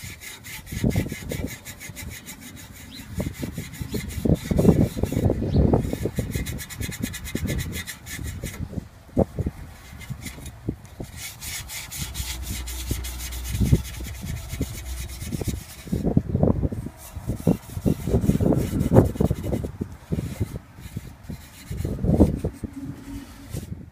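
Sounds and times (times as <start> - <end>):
steel wool scrubbing metal: 0.0 - 23.9.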